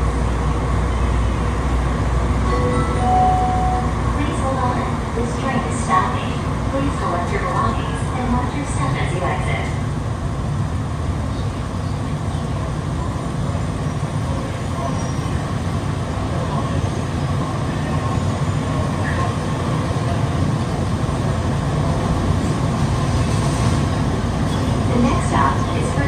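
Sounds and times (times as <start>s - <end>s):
train car rumbling in tunnel: 0.0s - 26.0s.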